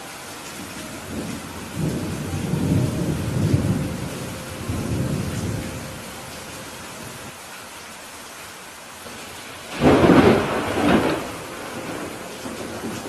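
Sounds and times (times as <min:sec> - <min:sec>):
steady rain: 0:00.0 - 0:13.0
thunder rumbling: 0:00.6 - 0:07.3, 0:09.1 - 0:13.0.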